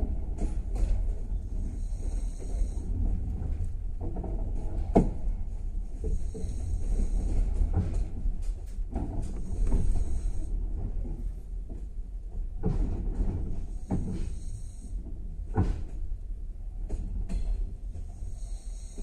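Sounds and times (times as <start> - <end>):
sharp knocks and clatters: 0.0 - 14.7, 15.5 - 16.2, 16.8 - 18.6
train wheels rumbling on track: 0.0 - 19.0.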